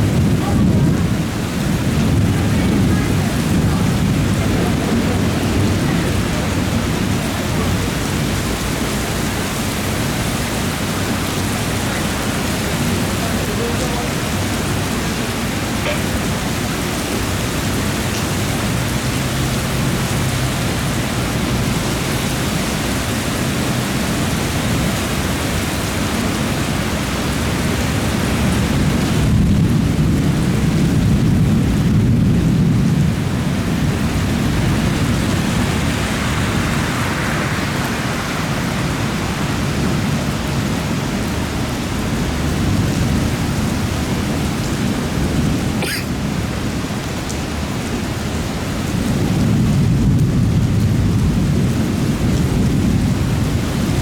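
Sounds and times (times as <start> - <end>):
low rumble of thunder: 0.0 - 45.6, 48.8 - 54.0
steady rain: 0.0 - 54.0.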